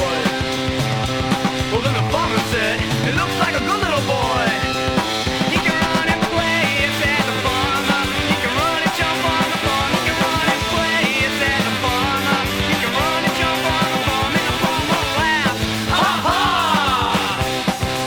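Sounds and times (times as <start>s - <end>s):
person singing: 0.0s - 0.7s, 1.4s - 17.6s
electric guitar: 0.0s - 18.0s
steady drumbeat: 0.0s - 18.0s.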